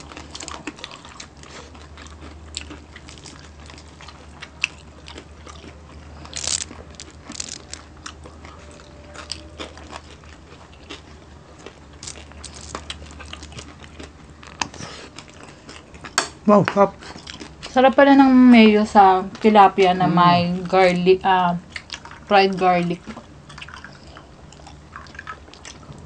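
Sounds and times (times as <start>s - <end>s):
low hum: 0.0s - 16.5s, 17.5s - 26.0s
people chewing and crunching food: 0.0s - 26.0s.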